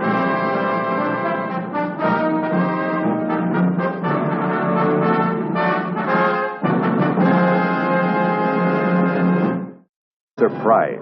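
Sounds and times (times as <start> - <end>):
brass-led orchestral music: 0.0 - 10.9.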